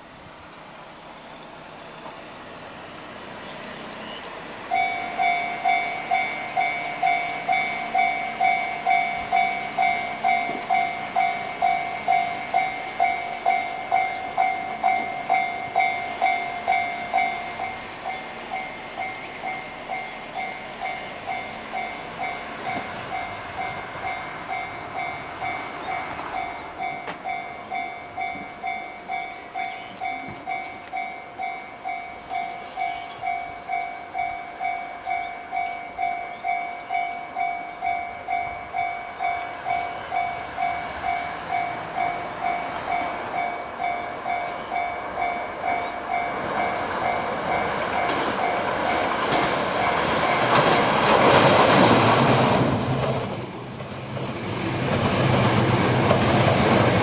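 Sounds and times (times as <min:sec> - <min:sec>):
level-crossing warning bell ringing: 0:00.0 - 0:57.0.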